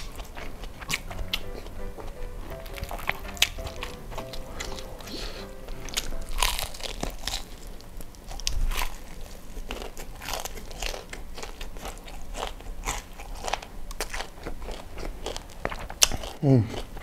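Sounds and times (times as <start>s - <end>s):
crunchy fried chicken being chewed: 0.0s - 17.0s.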